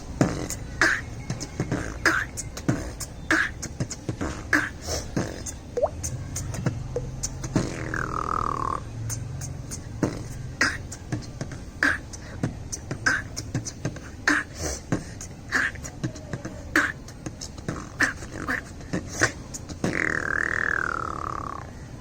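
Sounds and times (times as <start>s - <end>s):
beatboxing: 0.0s - 21.8s.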